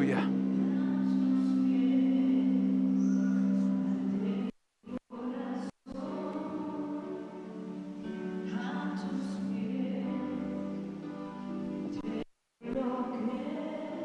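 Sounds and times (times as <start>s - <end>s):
voices singing: 0.0s - 14.0s.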